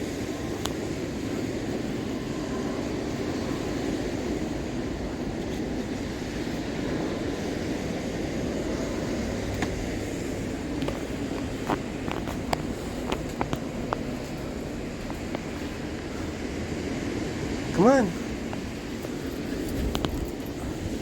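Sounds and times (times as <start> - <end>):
steady low rushing noise: 0.0 - 21.0.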